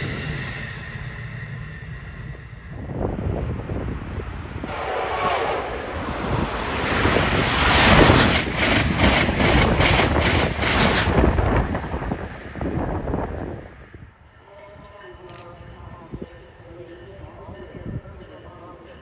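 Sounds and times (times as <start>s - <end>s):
train rushing past: 0.0s - 18.0s.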